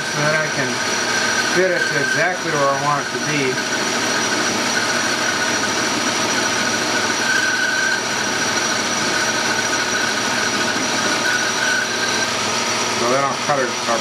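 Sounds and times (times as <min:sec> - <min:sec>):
high cutting tone: 0:00.0 - 0:13.7
metal lathe humming: 0:00.0 - 0:14.0.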